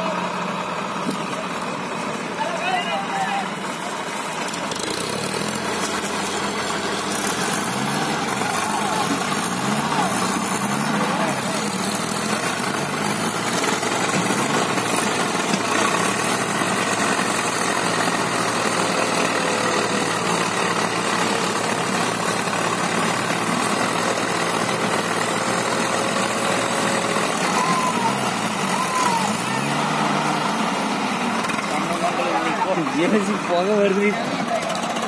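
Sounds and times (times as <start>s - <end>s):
diesel tractor engines running: 0.0s - 35.0s.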